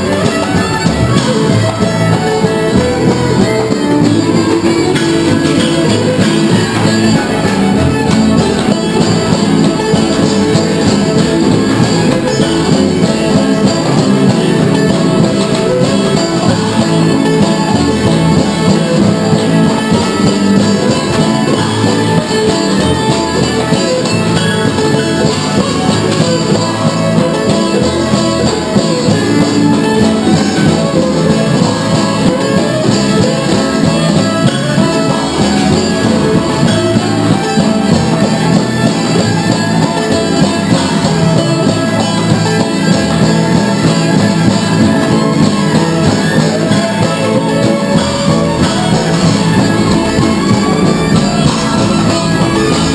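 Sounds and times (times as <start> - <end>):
banjo: 0.0 - 52.9
fiddle: 0.0 - 52.9
upright bass: 0.0 - 52.9.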